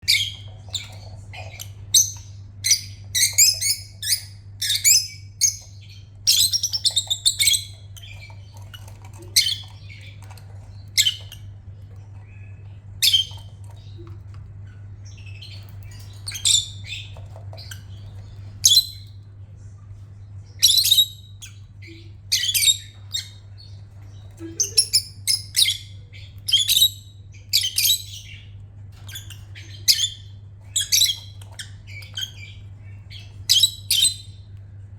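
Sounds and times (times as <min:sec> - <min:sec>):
lovebird chirping and squawking: 0:00.0 - 0:11.5, 0:13.0 - 0:19.0, 0:20.6 - 0:34.5.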